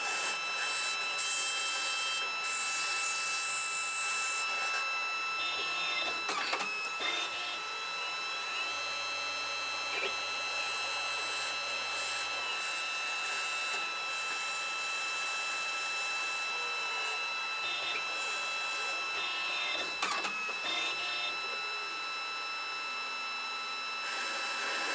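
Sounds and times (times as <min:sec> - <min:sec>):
lathe high whine: 0:00.0 - 0:24.9.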